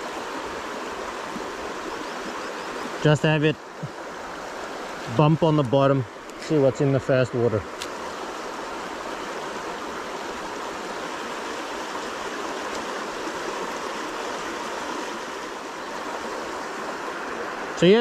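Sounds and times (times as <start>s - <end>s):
river water rushing over rapids: 0.0s - 18.0s.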